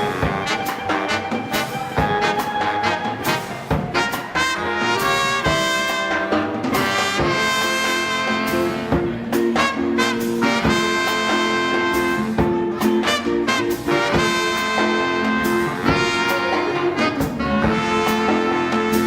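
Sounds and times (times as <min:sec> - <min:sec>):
drums: 0:00.0 - 0:19.0
horns holding chords: 0:00.0 - 0:19.0
swing band playing: 0:00.0 - 0:19.0.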